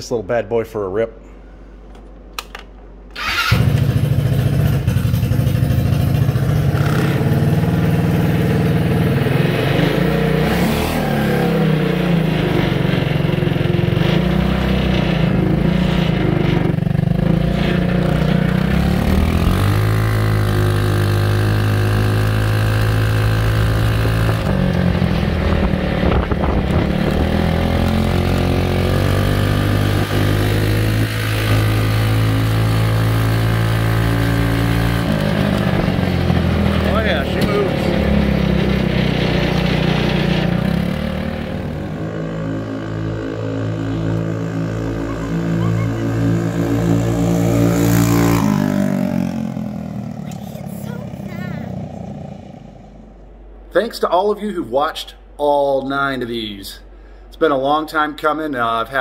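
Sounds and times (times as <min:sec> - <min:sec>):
go-kart engine starting and revving: 0:02.4 - 0:53.1.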